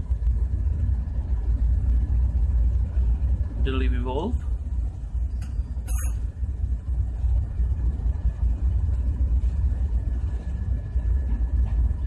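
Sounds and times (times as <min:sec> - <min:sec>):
machinery rumbling: 0:00.0 - 0:12.0.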